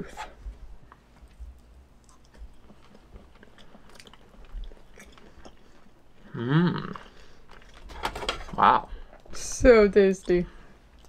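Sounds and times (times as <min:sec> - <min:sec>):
people chewing: 0:00.8 - 0:09.4, 0:10.2 - 0:11.0.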